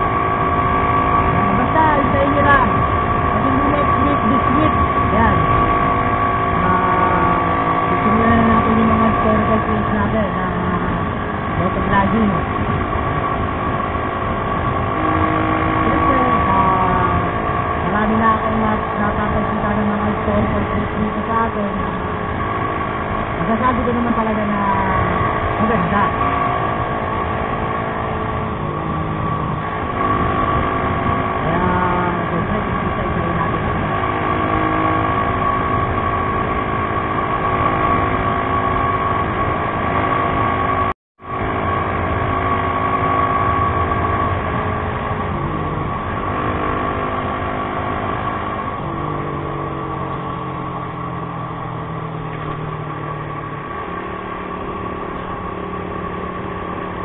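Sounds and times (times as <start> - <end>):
motorcycle engine running: 0.0 - 57.0
steady high whine: 0.0 - 57.0.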